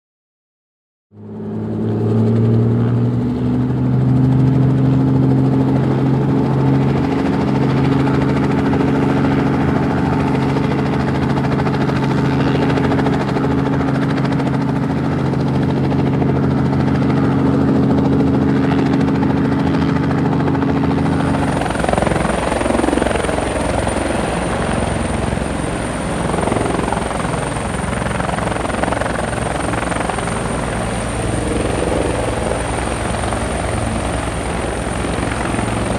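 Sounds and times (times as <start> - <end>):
helicopter engine drone: 1.1 - 35.9.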